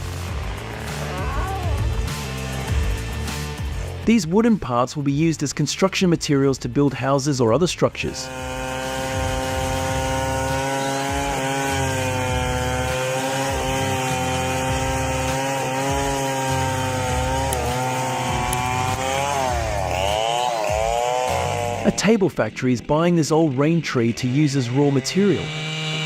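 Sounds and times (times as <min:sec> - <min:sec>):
chainsaw cutting through log: 0:00.0 - 0:04.0, 0:07.9 - 0:26.0.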